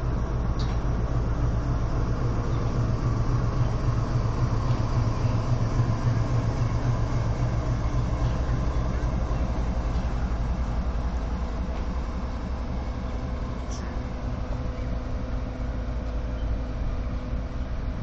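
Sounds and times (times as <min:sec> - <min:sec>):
locomotive engine droning: 0:00.0 - 0:18.0.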